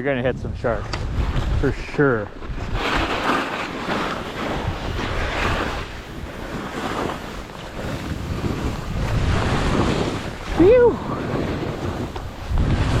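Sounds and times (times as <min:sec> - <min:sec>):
wind buffeting microphone: 0:00.0 - 0:13.0
skis scraping over snow: 0:00.6 - 0:13.0.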